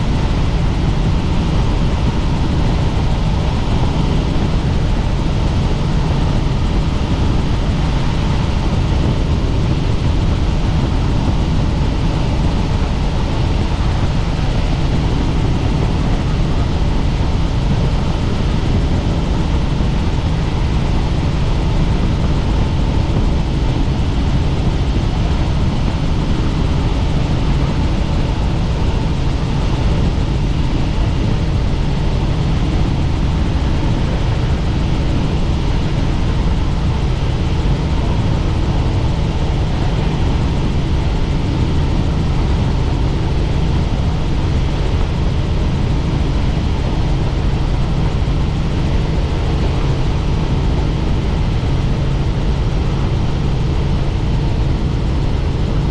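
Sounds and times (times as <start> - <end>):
faint steady hum: 0.0 - 55.9
helicopter rotor and engine: 0.0 - 55.9.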